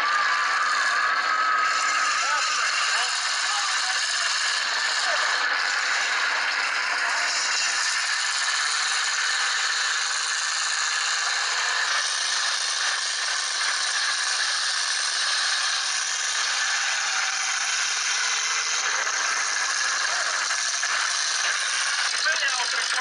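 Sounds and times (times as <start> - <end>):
truck engines rattling: 0.0 - 23.0.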